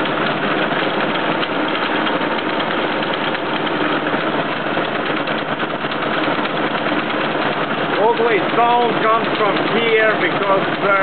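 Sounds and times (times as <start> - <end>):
milling machine cutting steel: 0.0 - 11.0.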